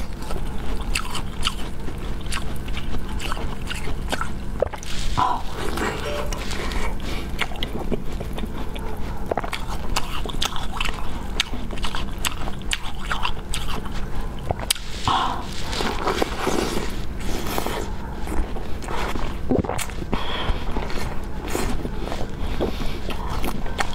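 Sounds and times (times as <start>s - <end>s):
crunchy food chewing: 0.0s - 6.0s, 7.0s - 23.9s.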